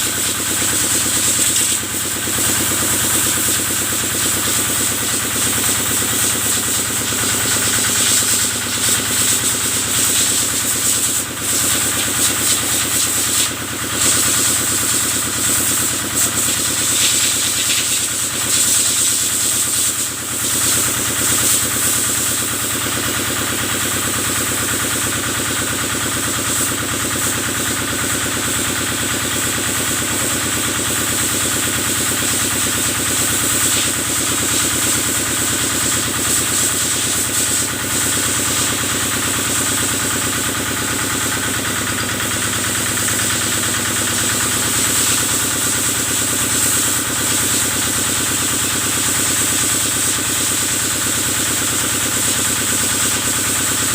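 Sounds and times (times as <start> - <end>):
engine running: 0.0 - 53.9
pressure washer spray hissing: 0.0 - 53.9.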